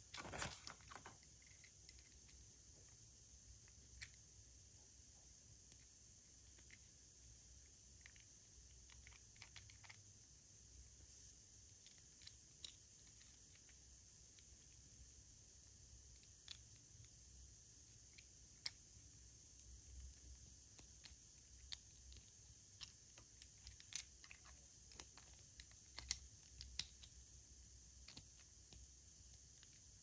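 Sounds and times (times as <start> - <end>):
small clicks and crinkles: 0.0 - 4.3, 5.6 - 10.1, 11.6 - 14.9, 16.0 - 17.2, 17.8 - 27.2, 28.0 - 30.0
faint steady hiss: 0.0 - 30.0.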